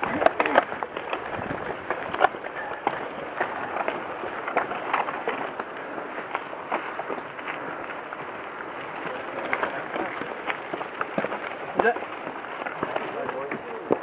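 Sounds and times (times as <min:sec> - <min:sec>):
bike rattling and knocking: 0:00.0 - 0:14.0
tyres rolling on gravel: 0:00.0 - 0:14.0.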